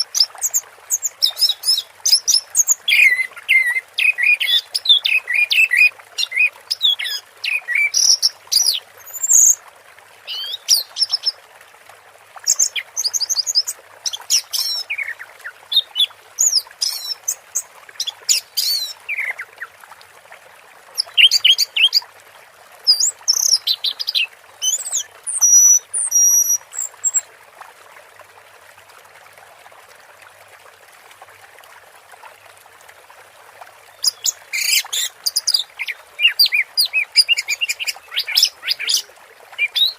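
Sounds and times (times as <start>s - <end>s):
trickle of running water: 0.0s - 39.9s.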